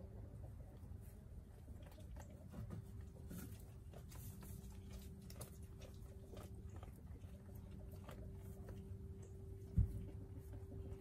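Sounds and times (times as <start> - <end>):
faint steady hum: 0.0 - 11.0
sheep chewing hay: 0.6 - 11.0.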